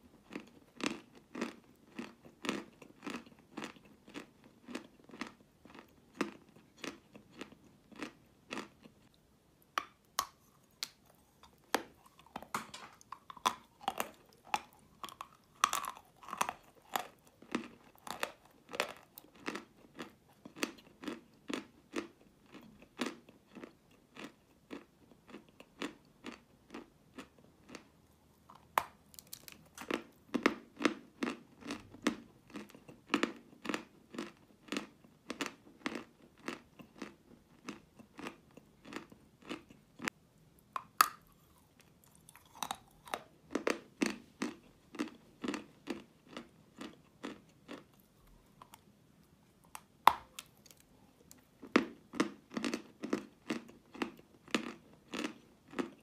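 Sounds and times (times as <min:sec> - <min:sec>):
chewing with soft crunches: 0:00.1 - 0:09.2, 0:09.8 - 0:56.0.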